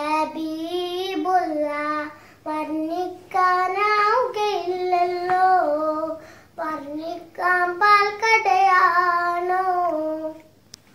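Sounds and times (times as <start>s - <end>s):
girl singing unaccompanied: 0.0s - 10.6s.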